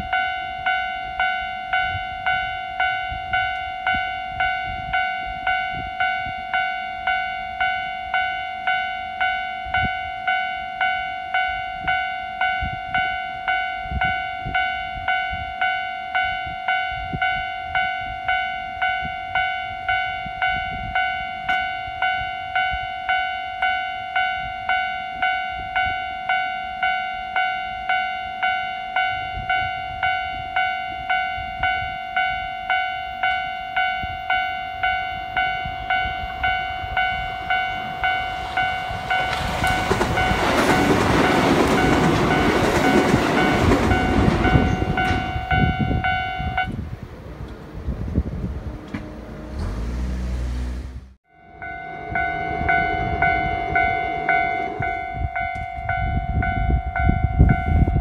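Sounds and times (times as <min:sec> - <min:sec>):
level crossing bell ringing: 0:00.0 - 0:46.8, 0:51.3 - 0:58.0
train passing on rails: 0:00.0 - 0:58.0.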